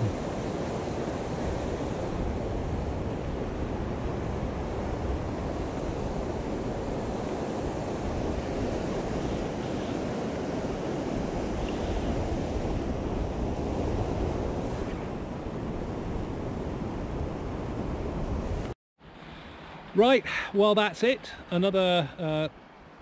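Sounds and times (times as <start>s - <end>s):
wind buffeting microphone: 0.0s - 18.7s.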